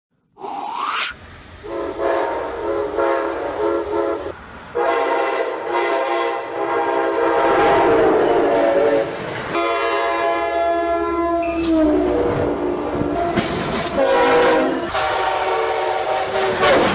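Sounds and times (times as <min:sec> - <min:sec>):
train rumble: 0:01.2 - 0:16.9
train air horn blasts: 0:01.6 - 0:16.9.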